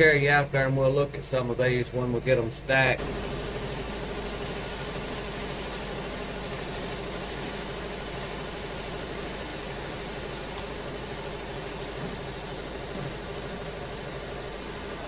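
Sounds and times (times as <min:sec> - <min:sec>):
band sawmill engine drone: 0:00.0 - 0:15.0.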